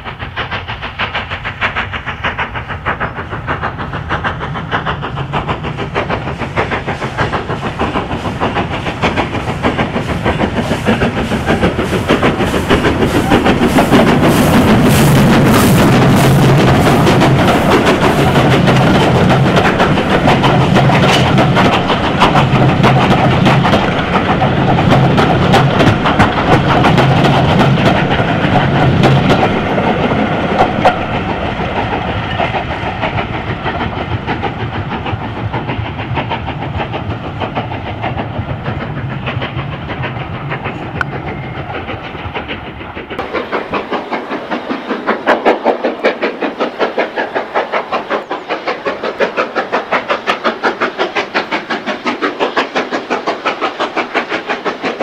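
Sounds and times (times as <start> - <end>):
steam locomotive exhaust beats: 0.0 - 55.0
wheels clicking over rail joints: 1.1 - 55.0.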